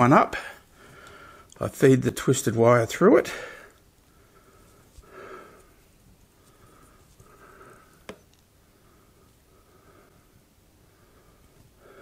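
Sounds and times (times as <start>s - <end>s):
faint nasal breathing: 0.4s - 1.6s, 3.3s - 12.0s.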